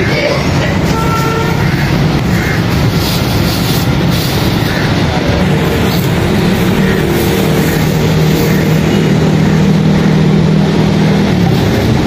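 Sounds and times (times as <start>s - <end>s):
engine humming: 0.0s - 12.0s
street noise: 0.0s - 12.0s.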